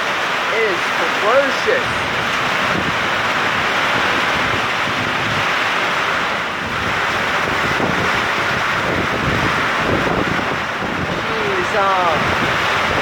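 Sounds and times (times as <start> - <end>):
heavy rain pouring: 0.0 - 13.0
wind gusts buffeting microphone: 0.0 - 13.0.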